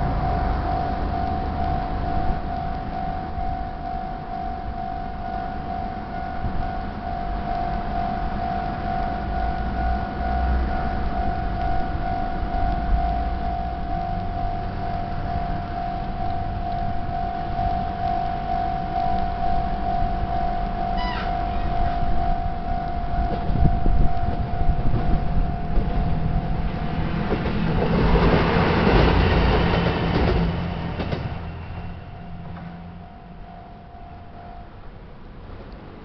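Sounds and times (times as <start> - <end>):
level crossing bell ringing: 0.0 - 26.5, 31.8 - 35.1
low rumble: 0.0 - 35.8.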